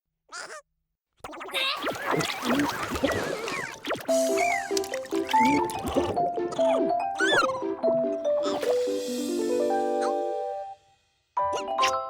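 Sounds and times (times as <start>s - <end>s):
cartoon background music: 1.3s - 12.0s.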